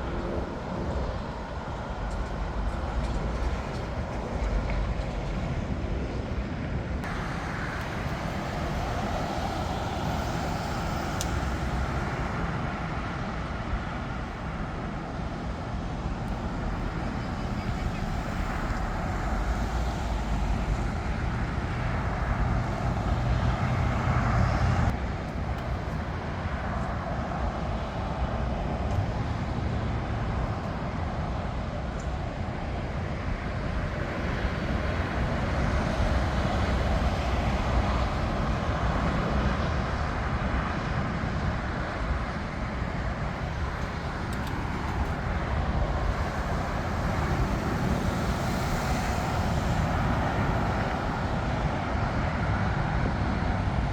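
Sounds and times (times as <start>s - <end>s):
jet engines rumbling and hissing: 0.0s - 53.9s.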